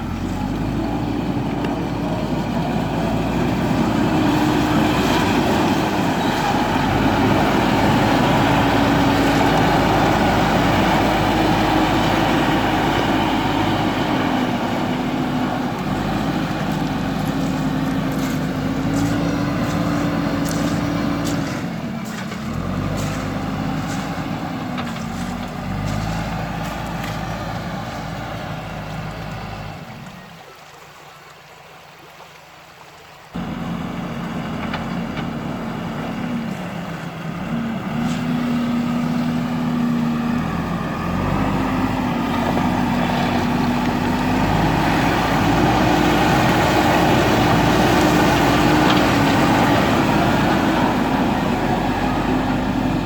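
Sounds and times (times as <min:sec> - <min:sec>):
diesel engine revving under load: 0:00.0 - 0:30.3, 0:33.4 - 0:53.0.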